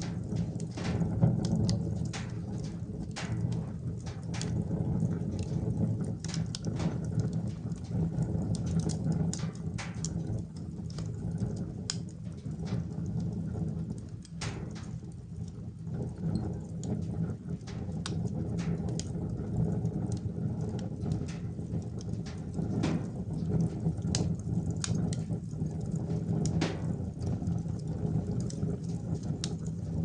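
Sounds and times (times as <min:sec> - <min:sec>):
low rumble of stove: 0:00.0 - 0:30.0
wood fire crackling and popping: 0:00.0 - 0:30.0.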